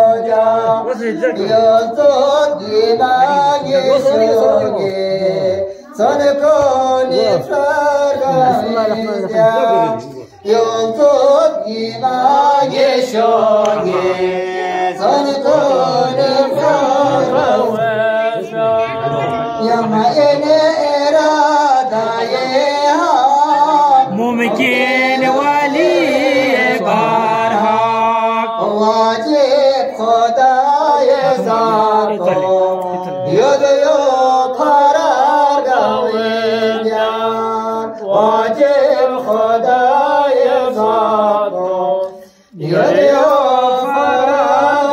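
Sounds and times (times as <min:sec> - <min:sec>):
men singing unaccompanied chant: 0:00.0 - 0:44.9.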